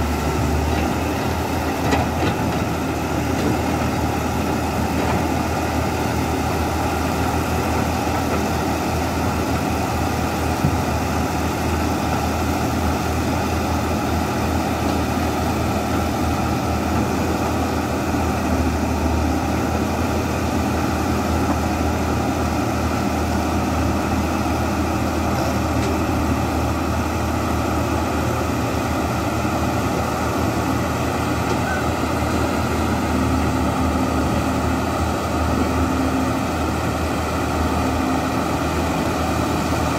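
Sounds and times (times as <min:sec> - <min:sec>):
excavator diesel engine running: 0:00.0 - 0:39.9
excavator tracks crawling: 0:00.0 - 0:39.9.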